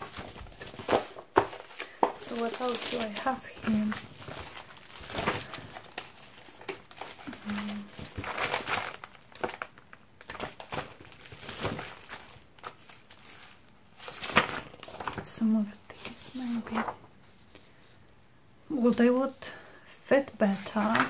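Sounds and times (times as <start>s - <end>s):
paper rustling and crinkling: 0.0s - 17.8s, 20.4s - 21.0s.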